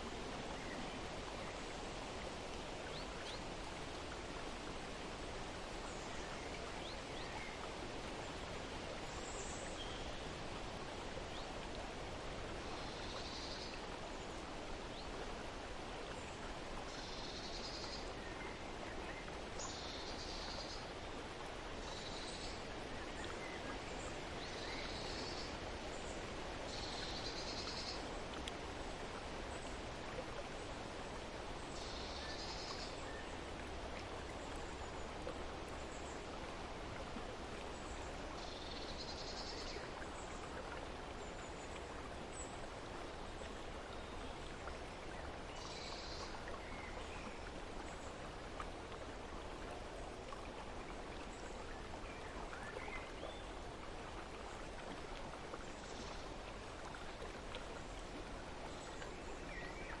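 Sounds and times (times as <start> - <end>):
water rushing: 0.0 - 60.0.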